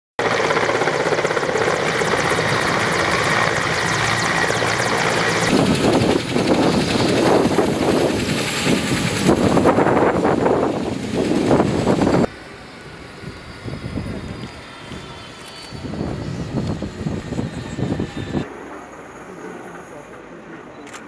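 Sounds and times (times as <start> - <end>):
helicopter rotor chopping: 0.2 - 20.7
high steady whine: 0.3 - 20.2.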